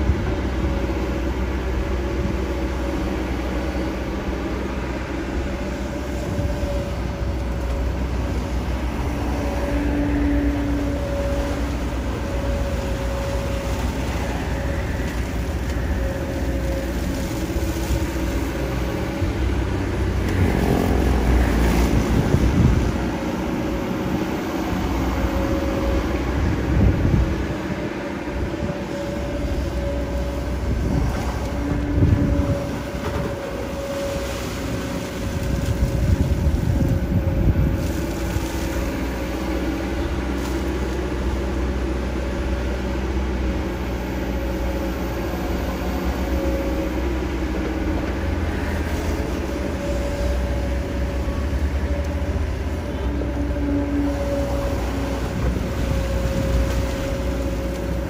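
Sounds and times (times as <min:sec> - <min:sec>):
excavator diesel engine under load: 0:00.0 - 0:58.0
hydraulic whine: 0:00.0 - 0:58.0.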